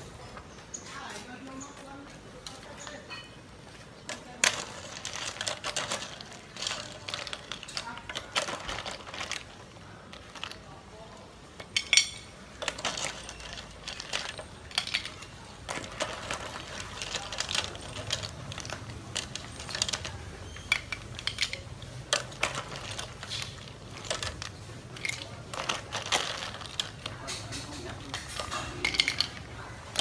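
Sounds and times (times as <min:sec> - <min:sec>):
snail shells clattering: 0:00.2 - 0:30.0.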